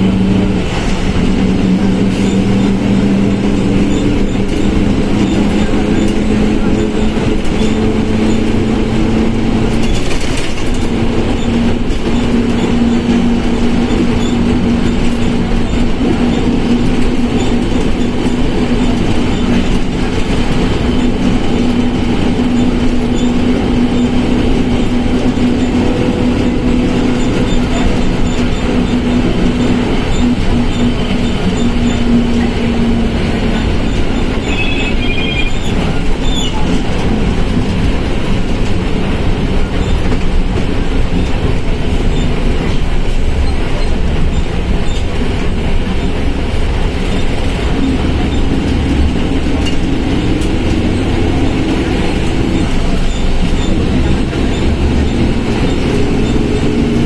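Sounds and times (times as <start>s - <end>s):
bus engine and road drone: 0.0s - 57.0s.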